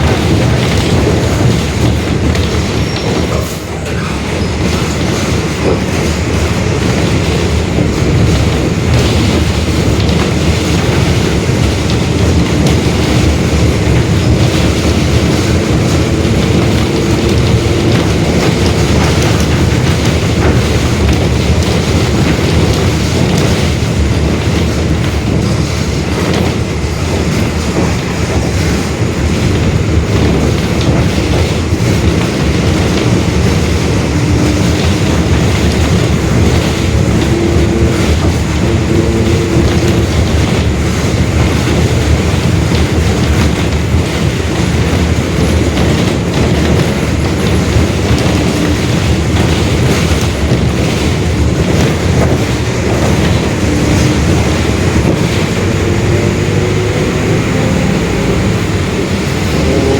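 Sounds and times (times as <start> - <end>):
bus diesel engine rumble: 0.0 - 59.9
road noise: 0.0 - 59.9.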